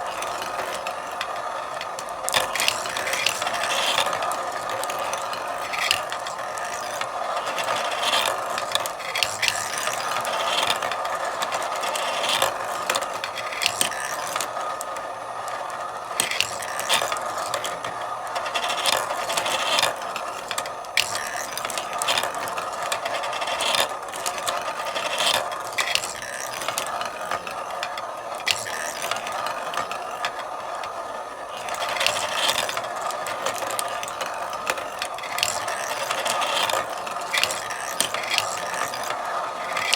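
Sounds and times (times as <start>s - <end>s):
marbles clicking: 0.0s - 39.9s
marbles rolling on tracks: 0.0s - 39.9s.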